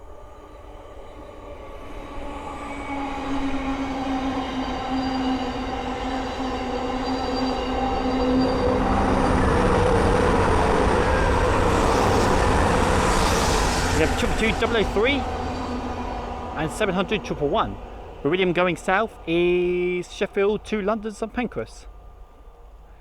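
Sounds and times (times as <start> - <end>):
train traction whine: 0.0 - 23.0
train wheels rushing on rail: 0.6 - 23.0.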